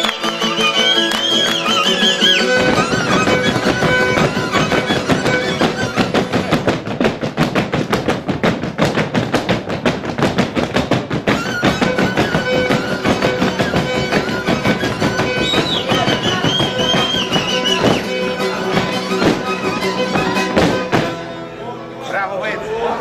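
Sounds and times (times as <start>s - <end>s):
acoustic guitar: 0.0s - 23.0s
hand drum beats: 2.4s - 21.2s.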